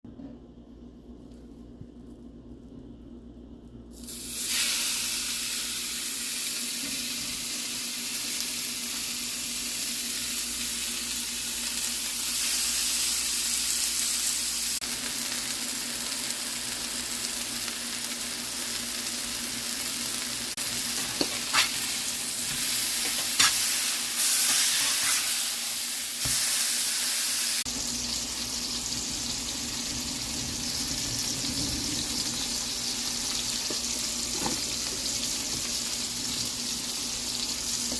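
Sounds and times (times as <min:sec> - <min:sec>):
burger patties sizzling: 0:03.9 - 0:37.9.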